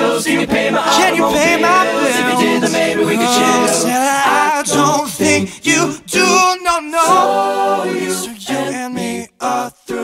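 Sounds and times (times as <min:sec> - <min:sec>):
women singing in harmony: 0:00.0 - 0:06.4, 0:07.0 - 0:10.0.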